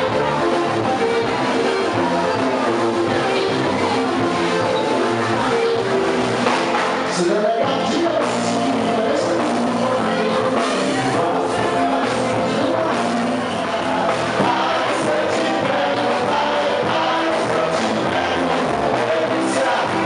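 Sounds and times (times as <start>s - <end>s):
band music with singing: 0.0s - 20.0s.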